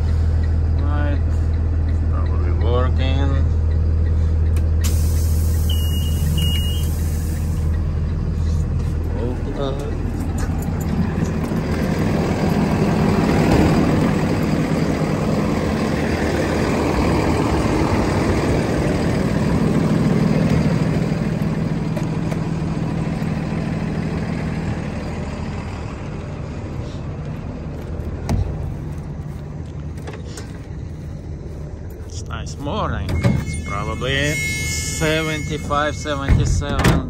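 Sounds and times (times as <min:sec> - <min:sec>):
bus engine idling: 0:00.0 - 0:37.0.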